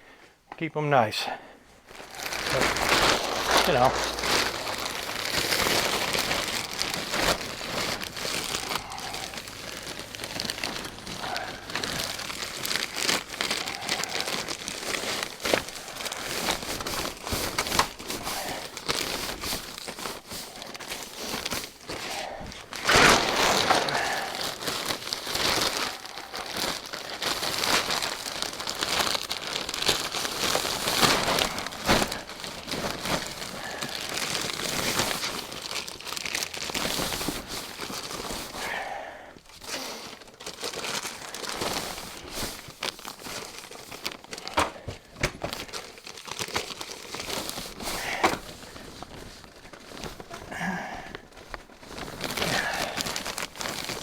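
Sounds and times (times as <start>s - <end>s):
plastic bags crinkling: 1.6s - 54.0s.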